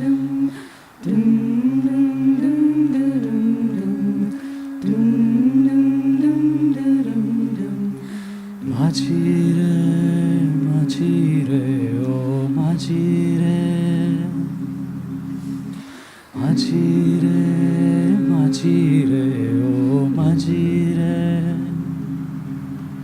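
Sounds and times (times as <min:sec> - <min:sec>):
a cappella group singing: 0:00.0 - 0:23.0.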